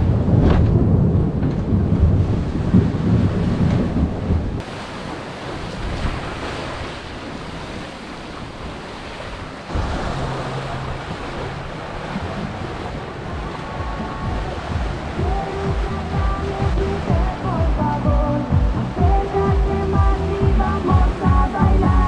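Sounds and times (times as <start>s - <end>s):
water rushing along boat hull: 0.0s - 22.0s
wind buffeting microphone: 0.0s - 22.0s.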